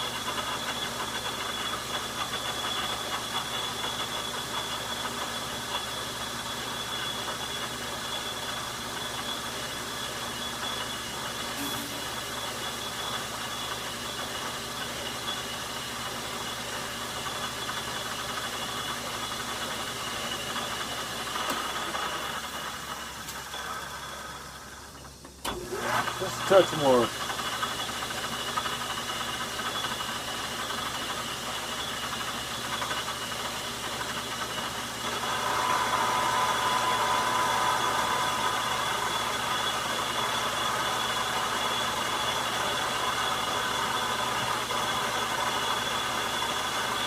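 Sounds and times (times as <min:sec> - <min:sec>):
metal lathe whirring and whining: 0:00.0 - 0:47.0.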